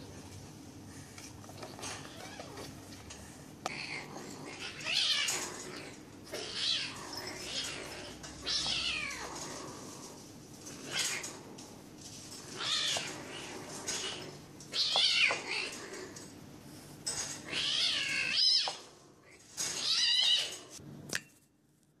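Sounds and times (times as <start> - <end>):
kittens play-fighting: 0.0 - 20.8.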